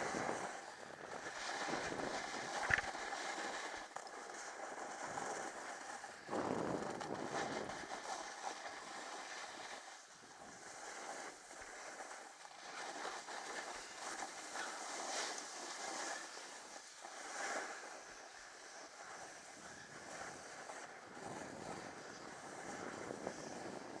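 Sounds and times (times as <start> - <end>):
wind on microphone: 0.0 - 16.4, 17.1 - 24.0
snowboard scraping on snow: 0.0 - 24.0.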